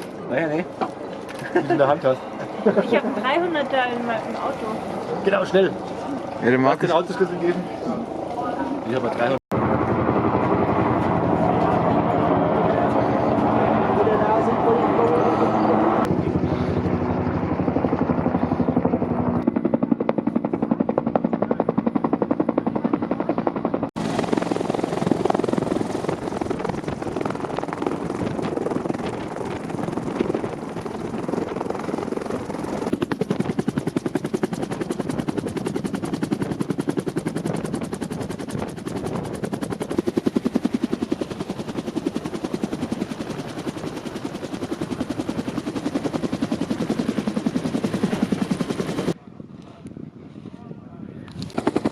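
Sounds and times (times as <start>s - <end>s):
helicopter rotor chopping: 0.0s - 51.9s.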